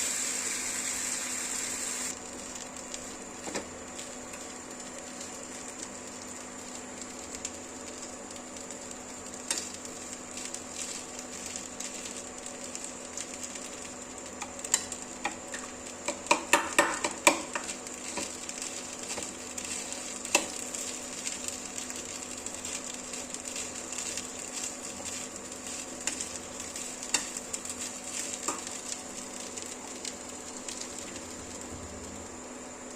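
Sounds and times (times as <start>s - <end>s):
rice sizzling in a pan: 0.0s - 32.9s.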